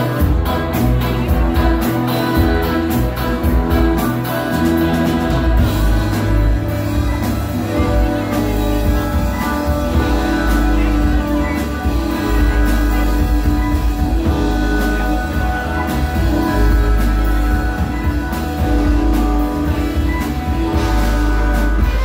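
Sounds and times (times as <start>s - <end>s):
drum kit: 0.0s - 22.0s
electric bass: 0.0s - 22.0s
electric guitar: 0.0s - 22.0s.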